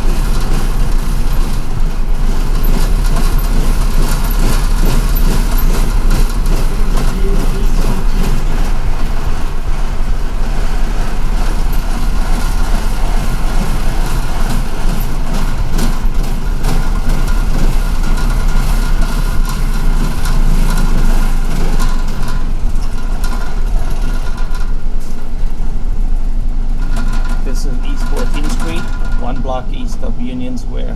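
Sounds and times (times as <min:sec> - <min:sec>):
cabin rattles and clicks: 0:00.0 - 0:30.2
bus engine drone: 0:00.0 - 0:30.9
road noise: 0:00.0 - 0:30.9.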